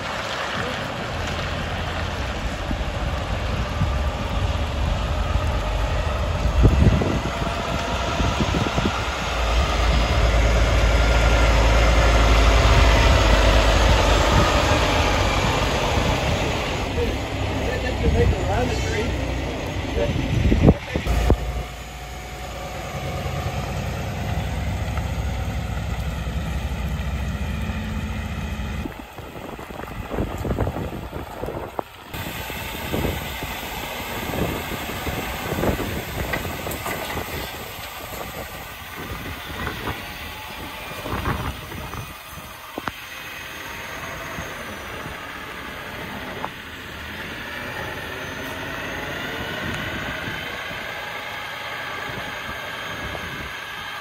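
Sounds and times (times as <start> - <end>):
diesel truck driving past: 0.0 - 54.0
tyres hissing on wet pavement: 0.0 - 54.0.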